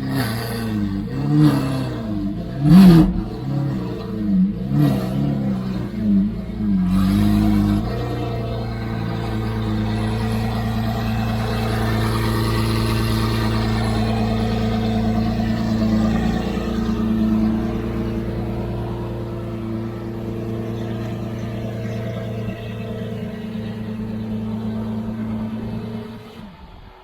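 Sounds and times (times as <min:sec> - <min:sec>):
car engine droning: 0:00.0 - 0:27.0.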